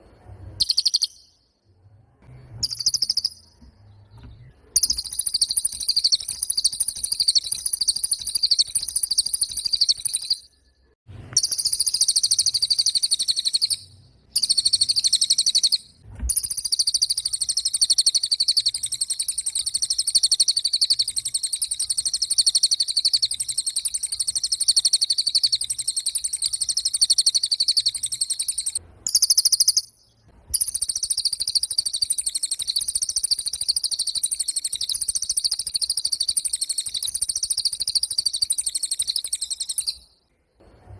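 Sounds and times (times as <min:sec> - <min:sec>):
bird fast high trill: 0:00.4 - 0:01.5, 0:02.6 - 0:03.6, 0:04.8 - 0:40.1.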